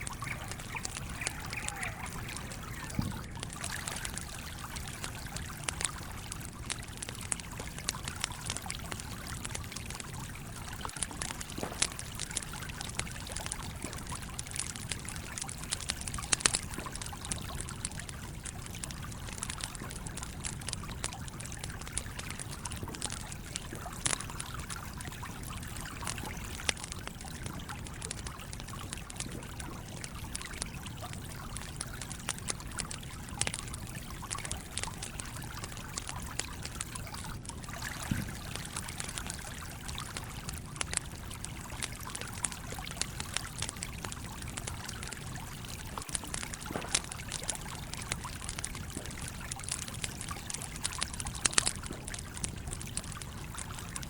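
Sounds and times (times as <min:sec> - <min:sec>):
campfire crackling: 0:00.0 - 0:54.0
stream flowing and trickling: 0:00.0 - 0:54.0.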